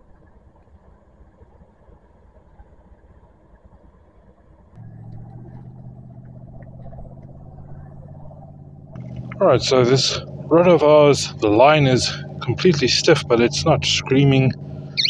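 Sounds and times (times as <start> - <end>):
faint low rumble: 0.0 - 15.0
low motor hum: 0.0 - 15.0.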